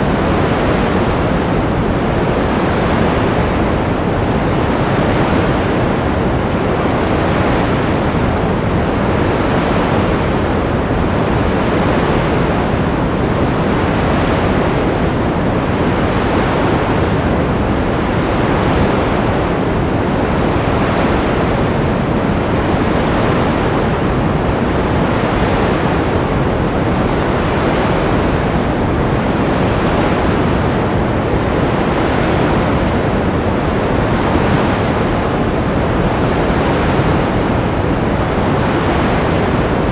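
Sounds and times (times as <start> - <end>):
ocean waves washing: 0.0 - 39.9.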